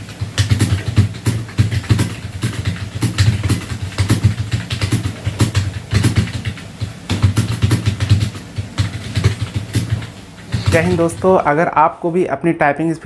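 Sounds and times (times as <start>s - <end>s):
fast typing on keyboard: 0.0s - 11.5s.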